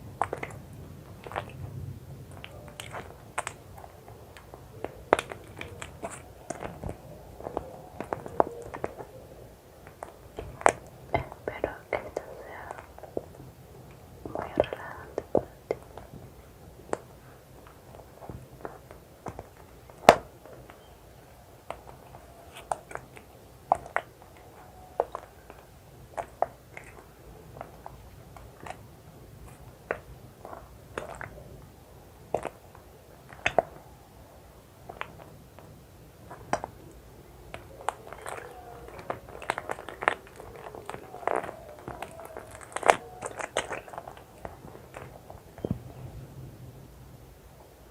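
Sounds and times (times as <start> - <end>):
plastic crinkling: 0.0 - 46.1.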